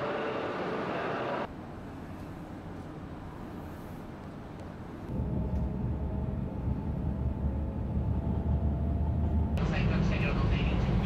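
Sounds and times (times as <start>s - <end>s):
heavy low train rumble: 0.0s - 11.0s
train cabin hum: 0.4s - 11.0s.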